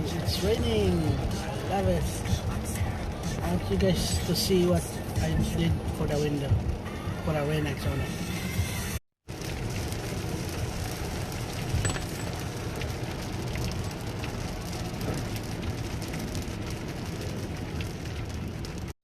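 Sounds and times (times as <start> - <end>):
vehicle moving in rain: 0.0 - 19.0.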